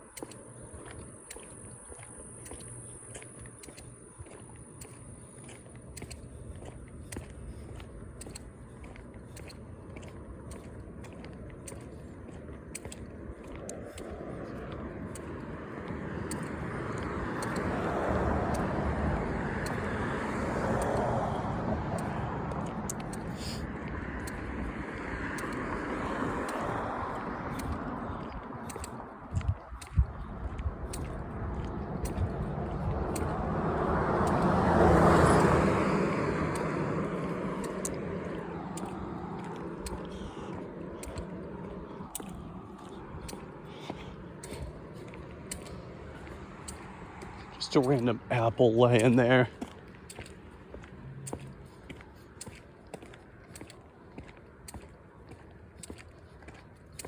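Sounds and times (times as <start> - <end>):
footsteps on pavement: 0.0 - 57.0
car passing by: 2.4 - 56.9.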